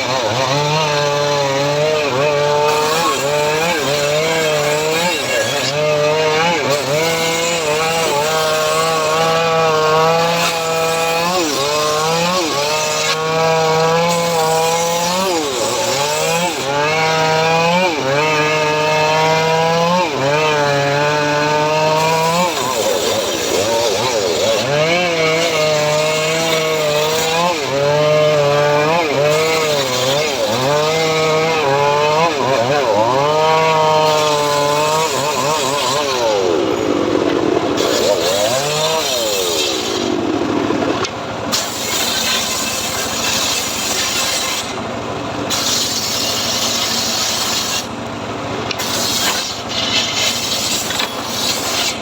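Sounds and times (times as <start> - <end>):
engine-driven sawmill sawing wood: 0.0 - 52.0.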